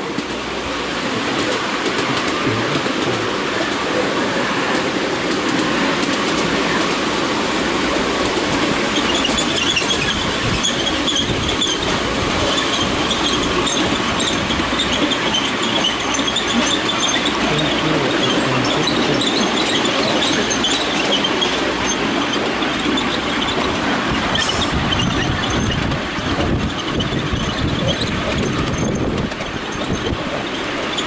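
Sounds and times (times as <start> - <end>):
train wheels clattering on rails: 0.0 - 31.0.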